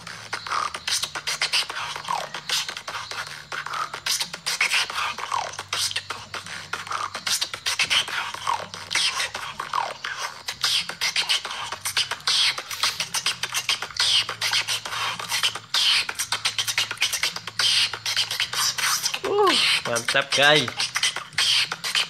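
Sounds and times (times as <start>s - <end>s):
woman beatboxing: 0.0s - 22.0s.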